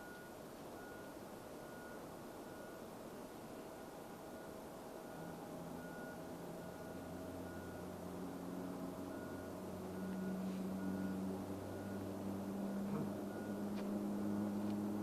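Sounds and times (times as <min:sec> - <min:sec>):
jet engines humming: 0:00.0 - 0:15.0.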